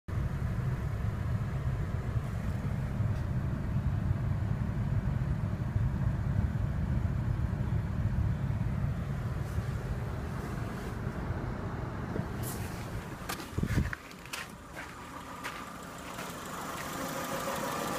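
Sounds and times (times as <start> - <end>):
car engine idling: 0.1 - 17.9.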